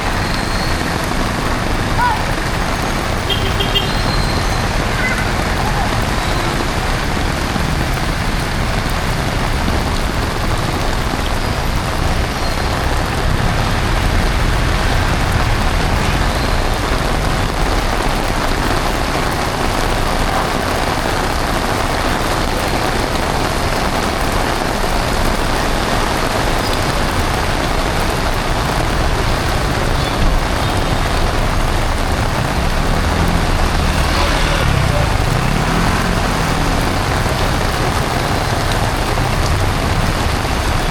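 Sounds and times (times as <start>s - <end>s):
heavy rain falling: 0.0s - 40.9s
road traffic rumble: 0.0s - 40.9s.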